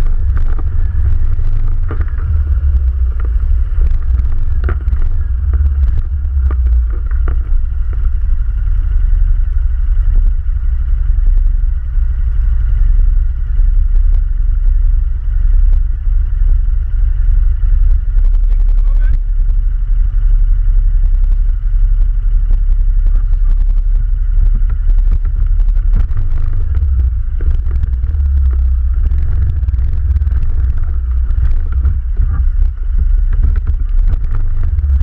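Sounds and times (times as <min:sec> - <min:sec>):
atv engine rumbling: 0:00.0 - 0:35.0.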